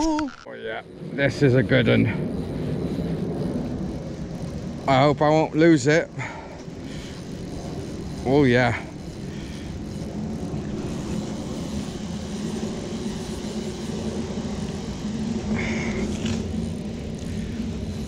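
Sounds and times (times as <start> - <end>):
road traffic rumble: 0.4 - 18.0.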